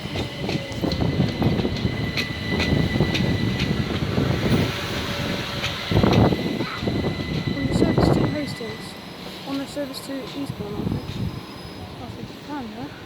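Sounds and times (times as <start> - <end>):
high whine: 0.0 - 11.9
electric train rumble: 0.0 - 13.0.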